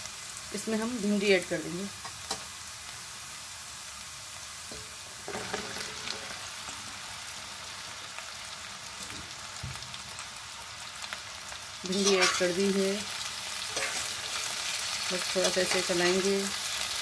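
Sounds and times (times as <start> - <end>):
onions frying in hot oil: 0.0 - 17.0.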